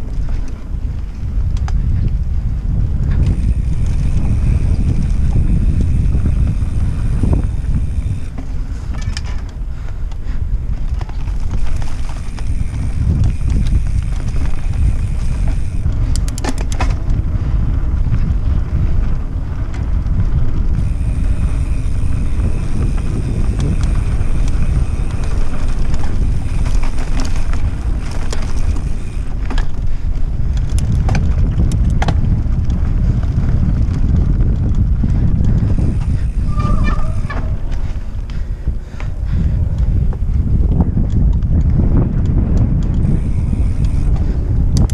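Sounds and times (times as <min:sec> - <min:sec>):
bike clicks and rattles: 0:00.0 - 0:44.9
tyres on dirt: 0:00.0 - 0:44.9
wind rumble on microphone: 0:00.0 - 0:44.9.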